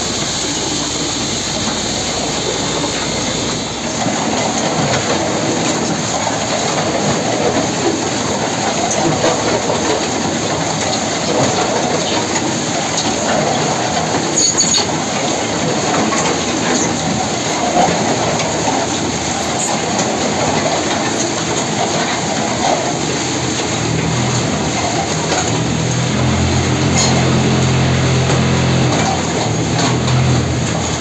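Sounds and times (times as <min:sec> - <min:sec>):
concrete mixer churning: 0:00.0 - 0:31.0.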